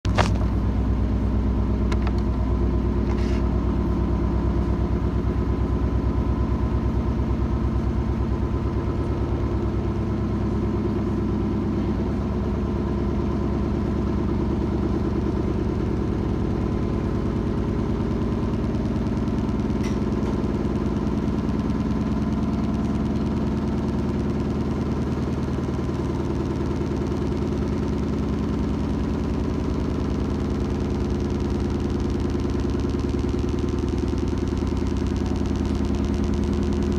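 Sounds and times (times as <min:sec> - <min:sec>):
washing machine running: 0:00.0 - 0:36.9.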